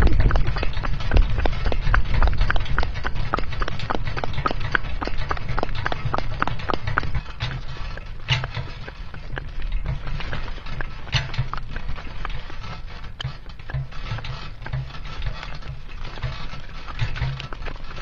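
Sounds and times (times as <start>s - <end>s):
cart rolling on dirt lane: 0.0s - 18.0s
cart shaft and wheels rattling: 0.0s - 18.0s
pony hoofbeats: 0.0s - 18.0s.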